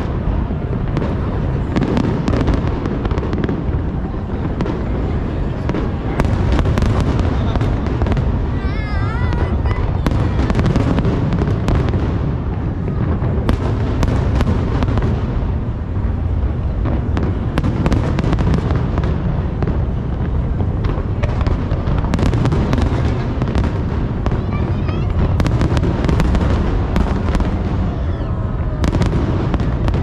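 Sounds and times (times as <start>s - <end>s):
fireworks cracks and pops: 0.0s - 30.0s
fireworks low rumble: 0.0s - 30.0s.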